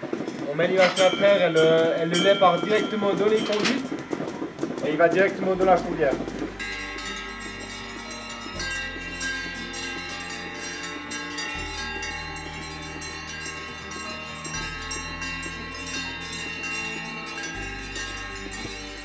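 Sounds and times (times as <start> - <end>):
background music with bell-like tones: 0.0 - 19.0.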